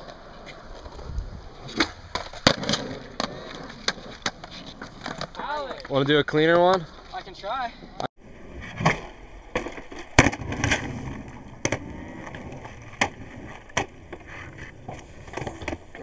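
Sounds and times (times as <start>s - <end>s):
skateboard wheels rolling on concrete: 0.0s - 16.0s.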